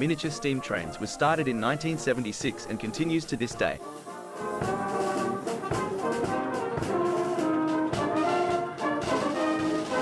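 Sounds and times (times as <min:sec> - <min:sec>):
brass band playing: 0:00.0 - 0:10.0.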